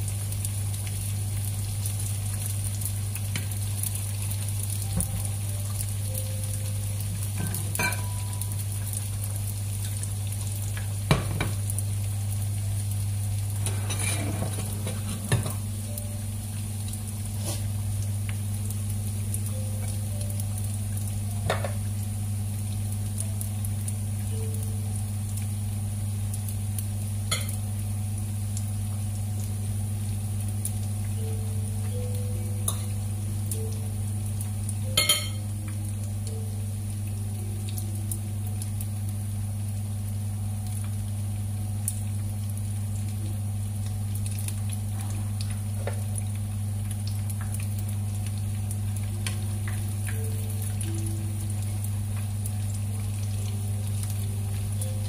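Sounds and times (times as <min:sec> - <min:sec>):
dumplings sizzling in oil: 0:00.0 - 0:55.0.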